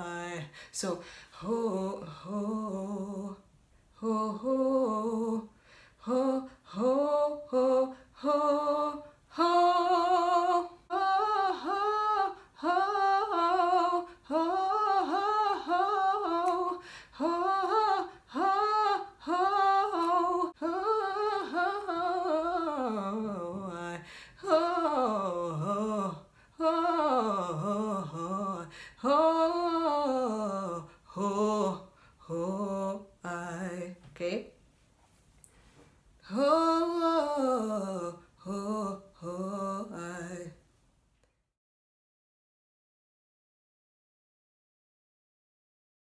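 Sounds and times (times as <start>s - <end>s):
woman singing wordless vocal riff: 0.0s - 34.6s, 36.2s - 40.7s.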